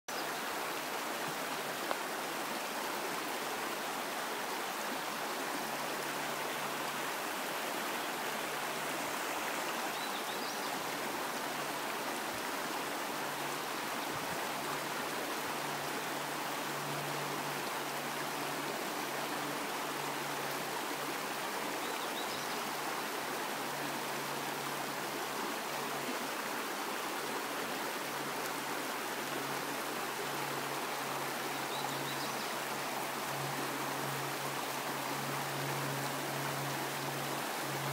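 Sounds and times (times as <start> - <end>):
stream running over rocks: 0.1 - 37.9.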